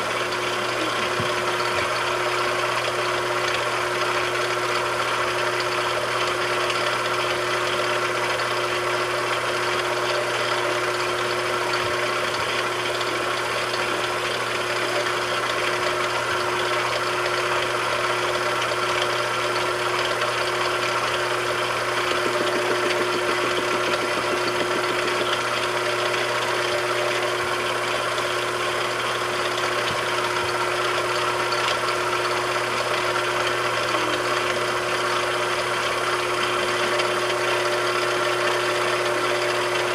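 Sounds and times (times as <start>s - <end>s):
machine tool motor running: 0.0s - 39.9s.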